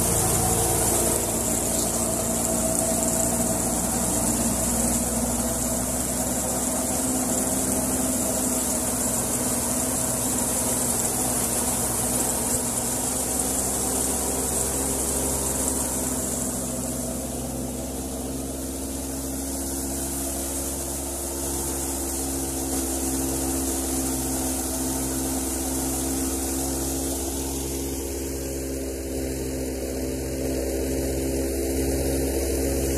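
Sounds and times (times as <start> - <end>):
high hiss: 0.0 - 28.4
thresher machine drone: 0.0 - 32.9.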